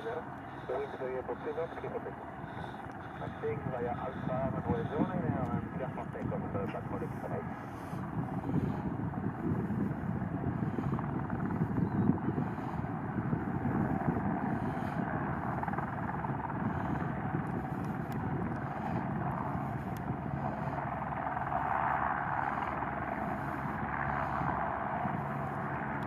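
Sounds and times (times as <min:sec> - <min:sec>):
helicopter turbine and rotor: 0:00.0 - 0:26.0.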